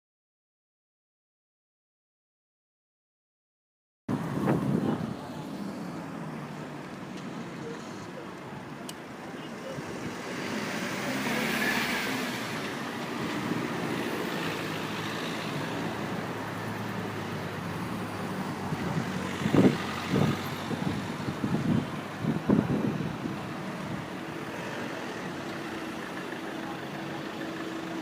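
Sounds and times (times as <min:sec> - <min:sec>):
car engine and road noise: 0:04.1 - 0:28.0.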